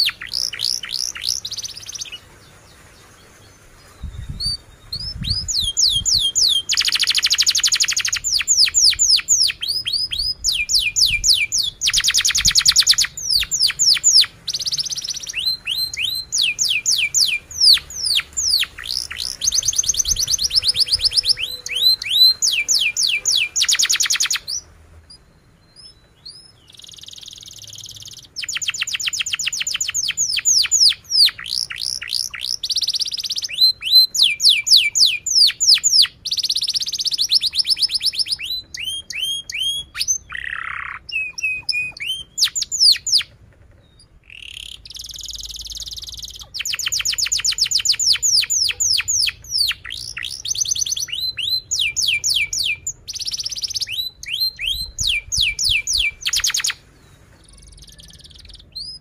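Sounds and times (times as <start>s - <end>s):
canary singing with trills: 0.0s - 59.0s.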